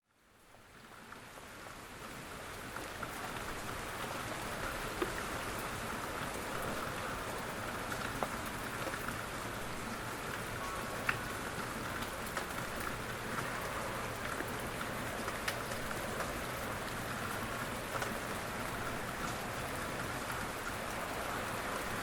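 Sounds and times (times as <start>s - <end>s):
quiet rain falling: 0.0s - 22.0s
raindrops ticking: 2.6s - 22.0s.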